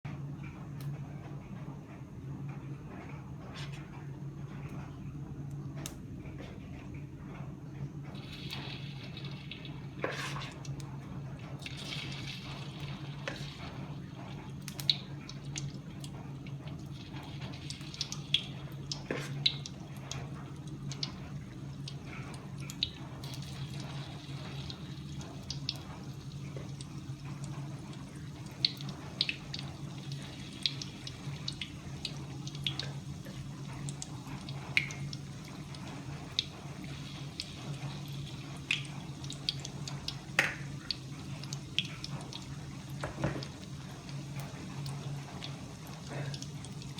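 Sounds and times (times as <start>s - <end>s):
steady low hum: 0.0s - 46.9s
water dripping: 8.0s - 46.9s.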